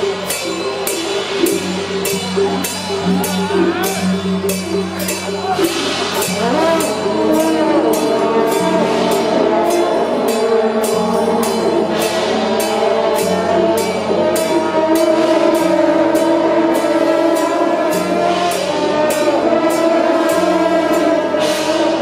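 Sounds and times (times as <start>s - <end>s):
sharp drum or cymbal strokes: 0.0s - 22.0s
steady low drone: 0.0s - 22.0s
wind instruments holding notes: 0.0s - 22.0s.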